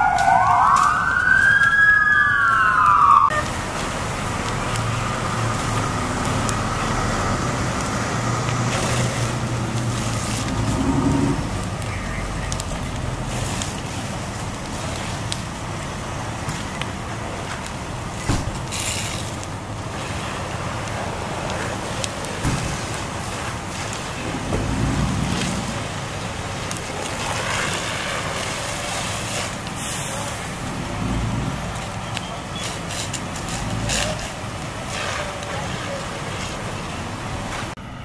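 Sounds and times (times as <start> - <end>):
fire engines running: 0.0 - 38.0
hose water spraying: 3.3 - 37.8.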